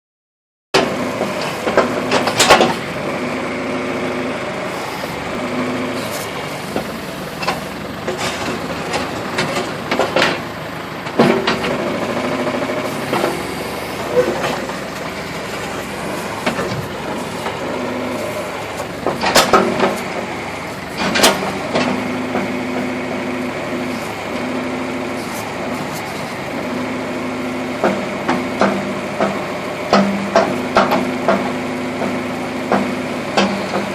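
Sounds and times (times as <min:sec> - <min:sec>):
backhoe engine running: 0:00.8 - 0:33.9.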